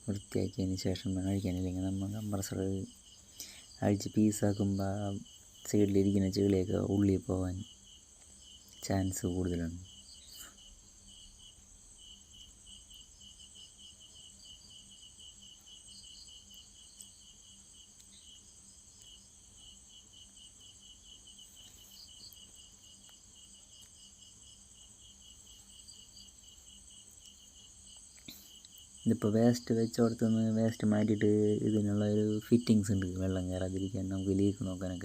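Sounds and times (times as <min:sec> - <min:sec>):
high-pitched insect trill: 0:00.0 - 0:35.0
insects chirping: 0:00.0 - 0:35.0.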